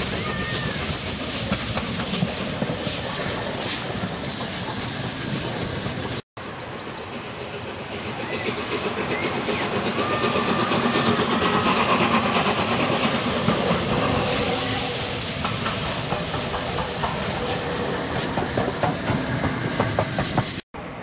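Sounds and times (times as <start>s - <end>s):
steam hissing: 0.0s - 20.6s
steam locomotive passing: 0.0s - 21.0s.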